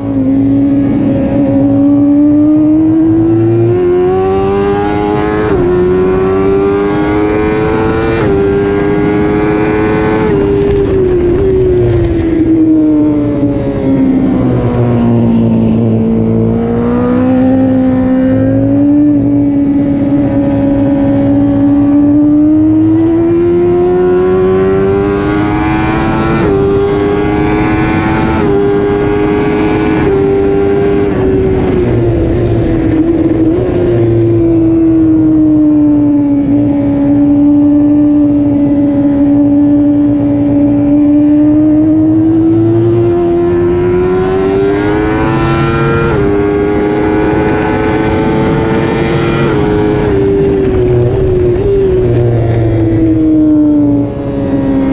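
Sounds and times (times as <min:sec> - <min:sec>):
heavy wind rush: 0:00.0 - 0:54.9
motorcycle engine at high revs: 0:00.0 - 0:54.9.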